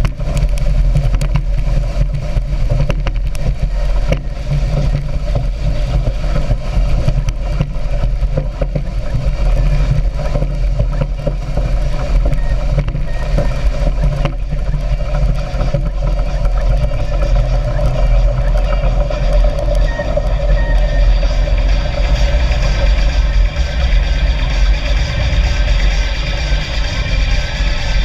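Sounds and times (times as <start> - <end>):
speedboat engine running: 0.0 - 28.0.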